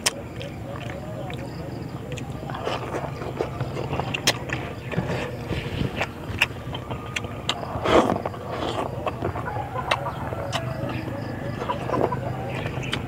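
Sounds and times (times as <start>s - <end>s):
wet mouth clicks and chewing: 0.0s - 11.0s
steady low hum: 0.0s - 13.0s.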